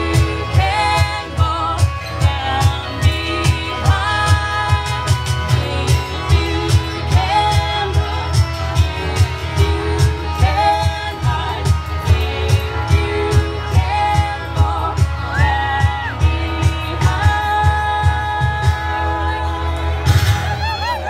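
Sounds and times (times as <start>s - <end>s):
bass: 0.0s - 21.0s
guitars: 0.0s - 21.0s
person singing: 0.0s - 21.0s.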